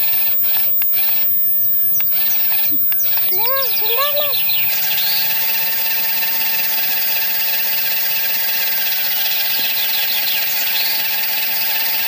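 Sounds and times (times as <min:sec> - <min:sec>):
toy electric motor whirring: 0:00.0 - 0:12.0.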